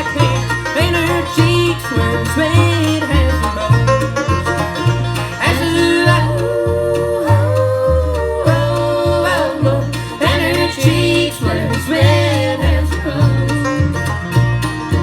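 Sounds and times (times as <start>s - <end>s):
man singing: 0.0s - 4.1s, 5.3s - 14.0s
acoustic bluegrass string music: 0.0s - 15.0s.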